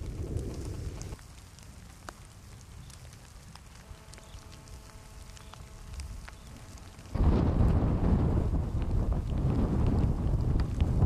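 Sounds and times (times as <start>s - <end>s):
faint ticks: 0.0s - 7.8s, 8.8s - 11.0s
faint steady hum: 0.0s - 11.0s
wind rumbling on microphone: 0.0s - 11.0s.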